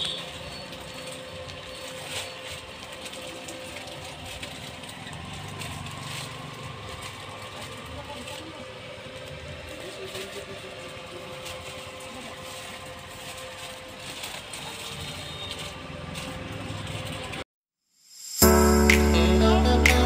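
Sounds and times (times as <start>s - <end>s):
mechanical hum: 0.0s - 17.4s.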